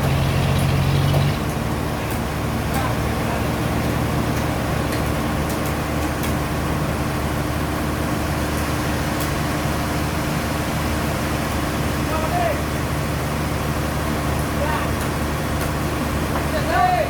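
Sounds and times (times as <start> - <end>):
sawmill machinery engine drone: 0.0 - 17.0.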